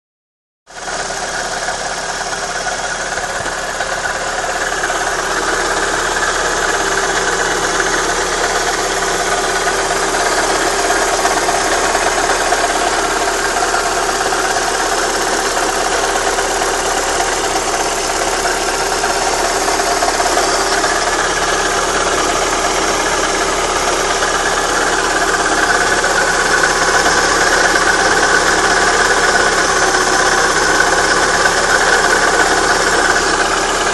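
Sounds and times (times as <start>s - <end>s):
car engine idling: 0.7s - 33.9s.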